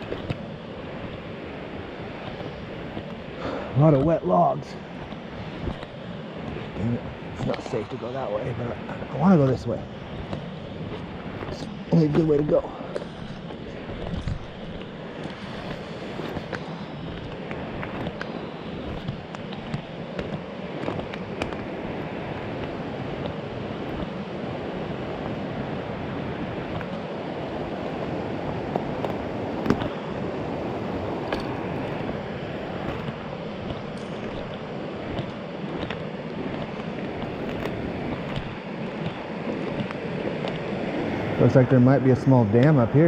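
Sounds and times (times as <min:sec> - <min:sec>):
creek water rushing over rocks: 0:00.0 - 0:43.0.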